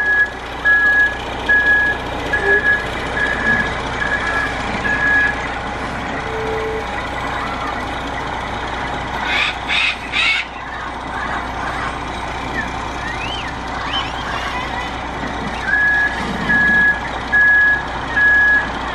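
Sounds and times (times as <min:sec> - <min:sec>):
reversing alarm beeping: 0:00.0 - 0:09.2, 0:10.4 - 0:14.5, 0:15.5 - 0:18.8.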